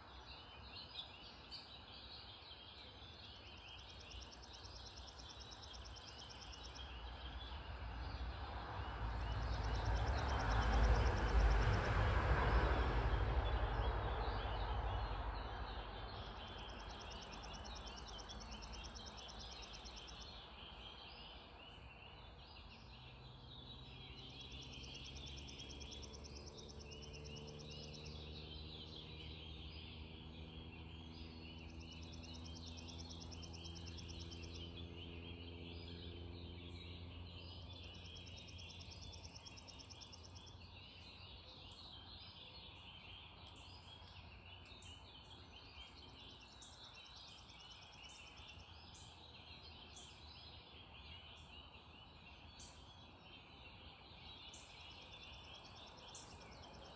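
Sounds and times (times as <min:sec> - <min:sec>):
songbirds calling: 0:00.0 - 0:11.7, 0:12.5 - 0:56.9.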